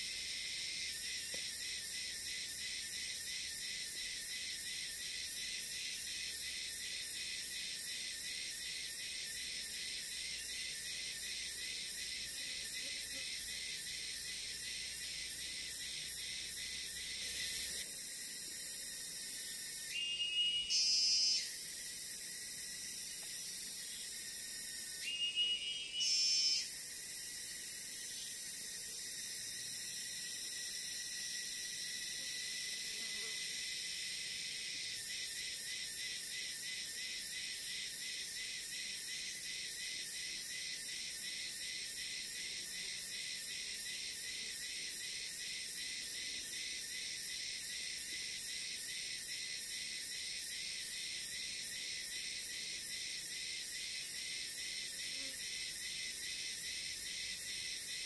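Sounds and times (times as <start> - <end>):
high-pitched insect drone: 0.0 - 58.0
pulsing insect call: 0.0 - 58.0.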